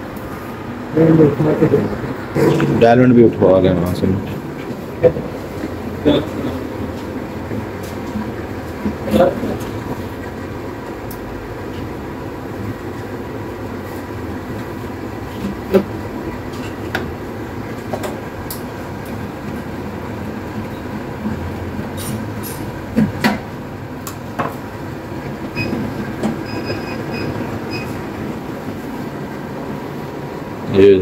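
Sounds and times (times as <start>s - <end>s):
steady rumbling background noise: 0.0s - 31.0s.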